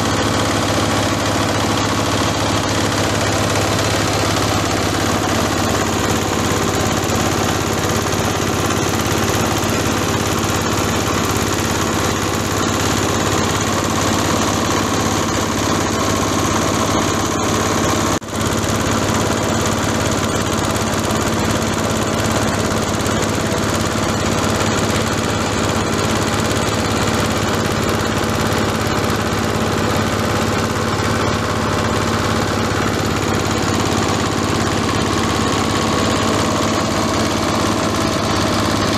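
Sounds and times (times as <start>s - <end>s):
small engine humming and clattering: 0.0s - 38.9s.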